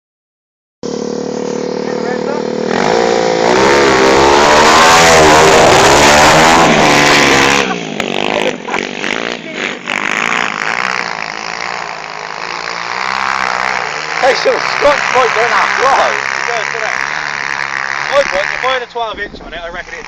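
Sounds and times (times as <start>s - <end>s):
pit bike engines revving: 0.8s - 20.0s.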